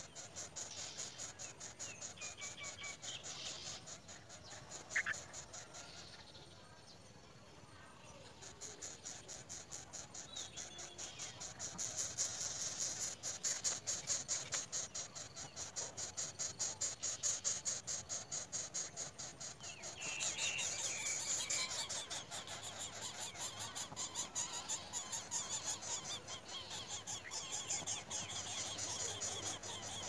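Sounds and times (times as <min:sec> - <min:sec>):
thin squealing calls: 0:00.0 - 0:06.0, 0:08.4 - 0:30.0.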